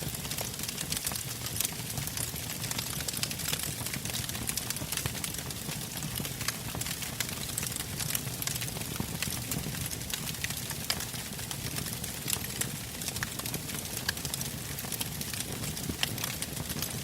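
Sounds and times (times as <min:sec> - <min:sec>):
campfire crackling: 0:00.0 - 0:17.0
low rumble of flames: 0:00.0 - 0:17.0.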